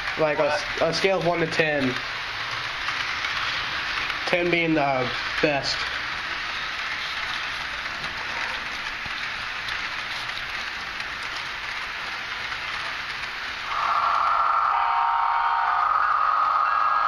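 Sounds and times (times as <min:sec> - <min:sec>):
model locomotive hiss: 0:00.0 - 0:17.0.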